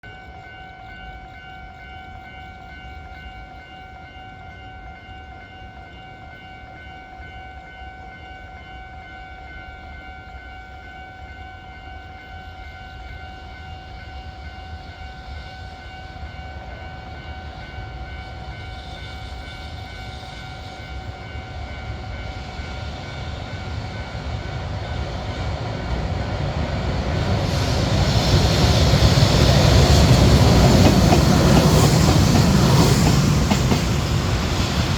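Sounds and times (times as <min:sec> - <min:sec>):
level-crossing warning bell ringing: 0:00.0 - 0:27.2, 0:28.6 - 0:34.9
freight train rumble: 0:00.0 - 0:34.9.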